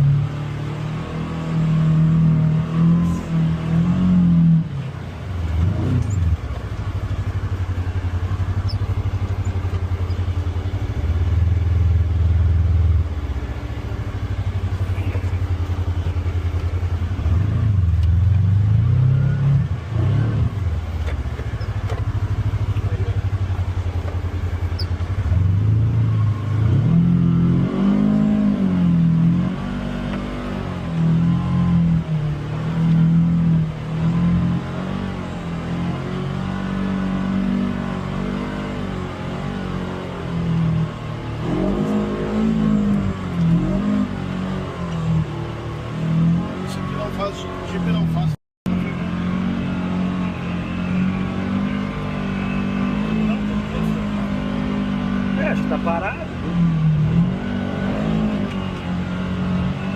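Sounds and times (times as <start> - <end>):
utility vehicle engine revving: 0.0 - 59.9.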